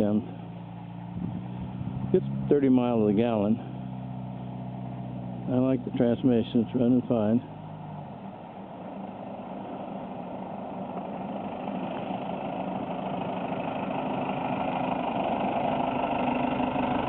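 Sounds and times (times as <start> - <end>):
pickup truck diesel engine approaching: 0.0 - 17.0.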